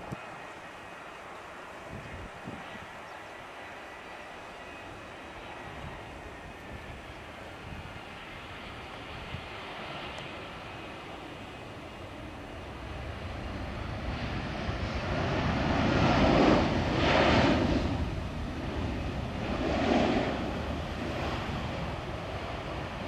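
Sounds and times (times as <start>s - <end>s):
jet engines of passing airliner: 0.0s - 23.0s.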